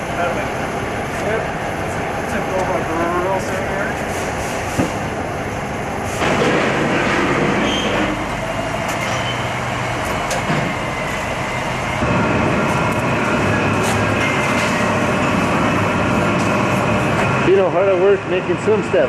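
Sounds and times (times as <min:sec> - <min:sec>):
shop machinery din: 0:00.0 - 0:19.0.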